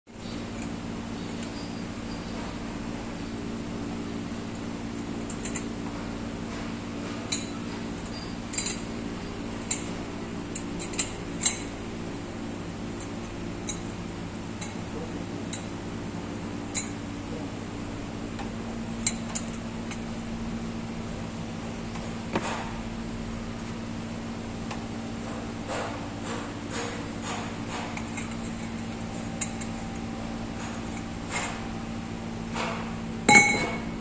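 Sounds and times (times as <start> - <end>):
low machinery hum: 0.1 - 34.0.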